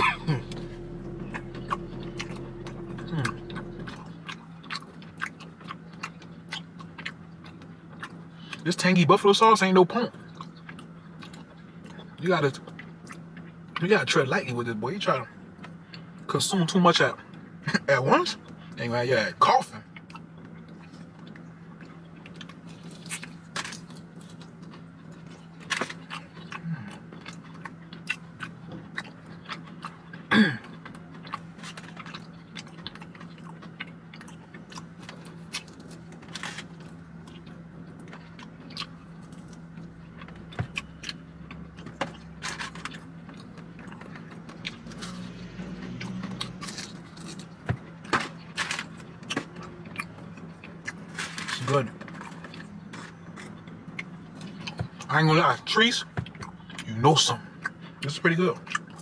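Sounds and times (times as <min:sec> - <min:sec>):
crunchy chewing: 0:00.0 - 0:08.7, 0:19.8 - 0:59.0
steady low hum: 0:00.0 - 0:09.2, 0:09.8 - 0:59.0.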